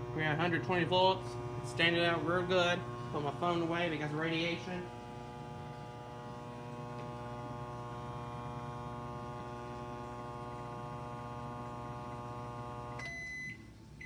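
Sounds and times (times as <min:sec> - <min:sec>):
microwave oven buzzing hum: 0:00.0 - 0:14.0.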